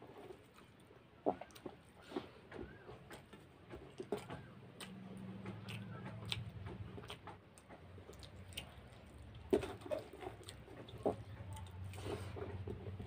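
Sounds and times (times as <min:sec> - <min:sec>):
faint low hum: 0:00.0 - 0:13.0
fingers mixing rice on plate: 0:00.0 - 0:13.0
mouth chewing: 0:00.1 - 0:13.0.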